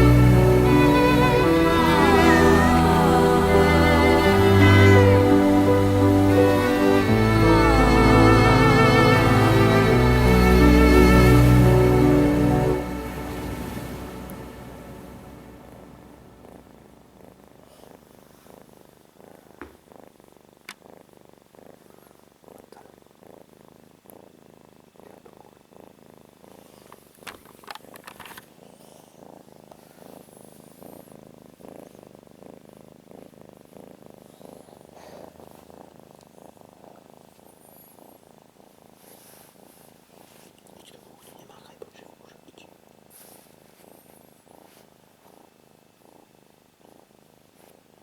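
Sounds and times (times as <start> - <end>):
cat purring: 0.0 - 48.0.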